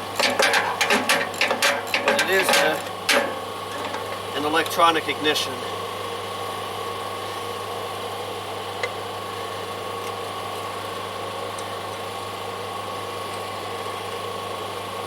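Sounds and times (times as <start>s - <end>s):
machine hum with pitched whine: 0.0s - 14.7s.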